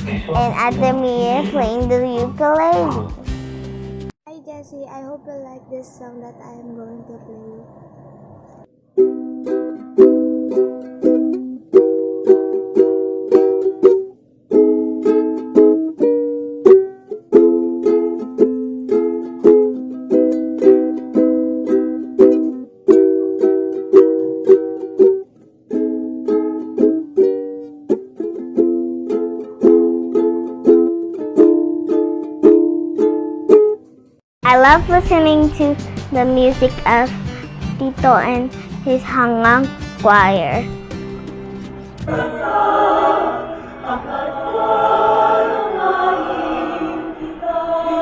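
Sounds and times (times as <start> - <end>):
ukulele strumming chords: 0.0 - 3.4, 9.0 - 48.0.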